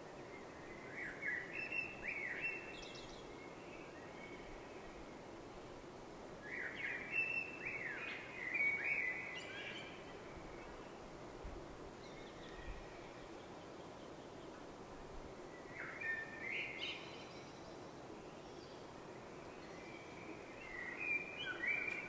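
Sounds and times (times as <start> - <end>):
songbird singing: 0.0 - 5.3, 6.4 - 11.2, 11.9 - 22.0
steady background hiss: 0.0 - 22.0.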